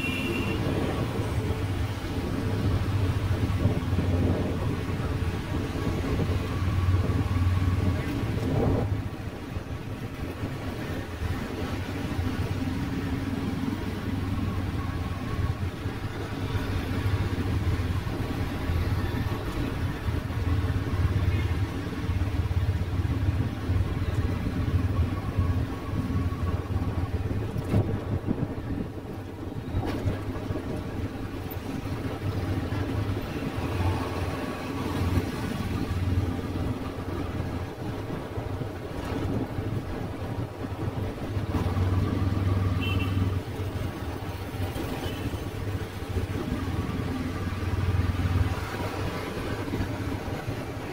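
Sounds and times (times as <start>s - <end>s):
motorbike and car engines: 0.0s - 50.9s
street traffic: 0.0s - 50.9s
wind noise on microphone: 0.0s - 50.9s.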